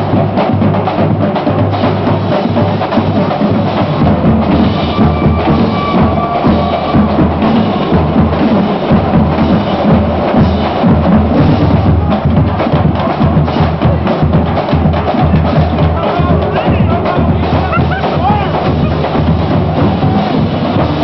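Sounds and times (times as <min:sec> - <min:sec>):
drumline playing cadence: 0:00.0 - 0:21.0.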